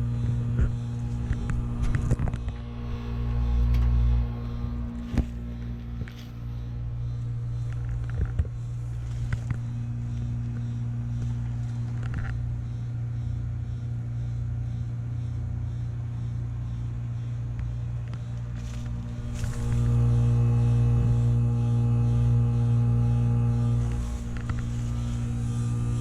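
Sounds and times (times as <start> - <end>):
heat pump humming: 0.0 - 26.0.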